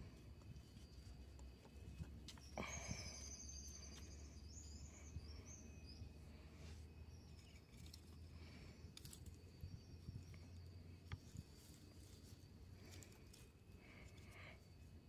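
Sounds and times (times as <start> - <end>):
faint rustles: 0.0 - 15.0.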